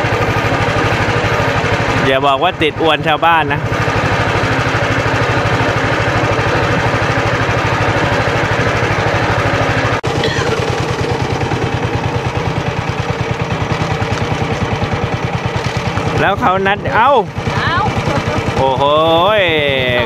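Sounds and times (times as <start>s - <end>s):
small boat engine chugging: 0.0s - 20.0s.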